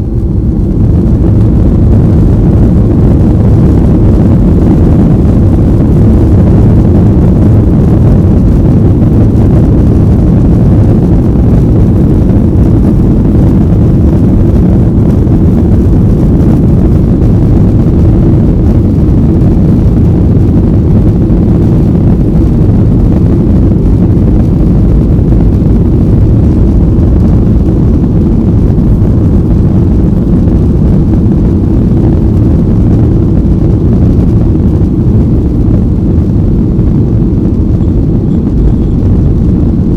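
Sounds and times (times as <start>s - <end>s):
jet engine roar inside cabin: 0.0s - 39.9s.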